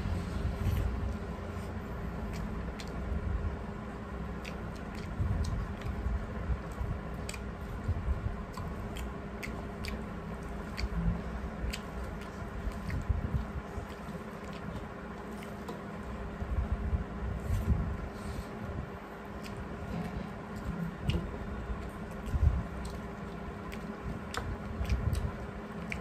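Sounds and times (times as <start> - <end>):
faint steady hum: 0.0 - 26.0
chewing: 0.6 - 3.2, 4.2 - 16.2, 17.4 - 26.0.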